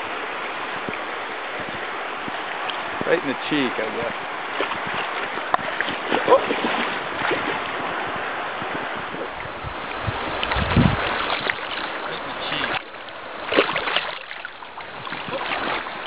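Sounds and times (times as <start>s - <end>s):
creek water rushing: 0.0s - 16.0s
wind buffet on microphone: 0.0s - 16.0s.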